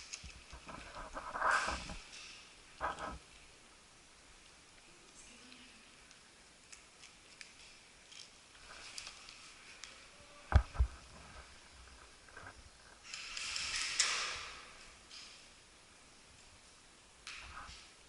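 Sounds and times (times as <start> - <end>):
rustling: 0.0 - 15.6.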